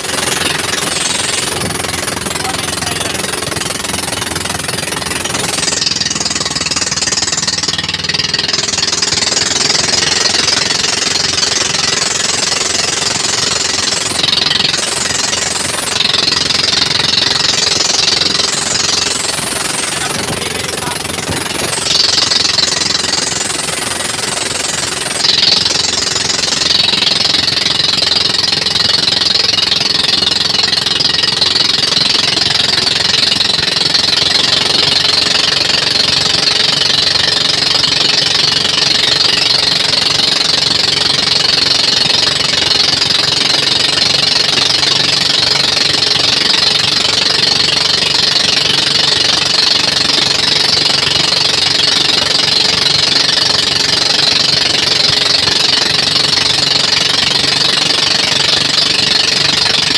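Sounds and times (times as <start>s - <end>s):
boat engine chugging: 0.0s - 59.9s.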